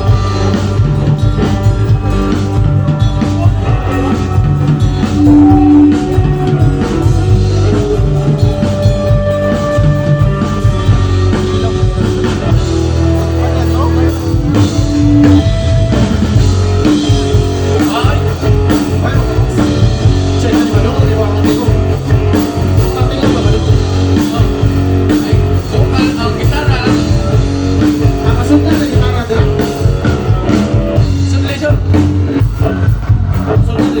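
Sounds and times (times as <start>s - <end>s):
rock music: 0.0s - 34.0s.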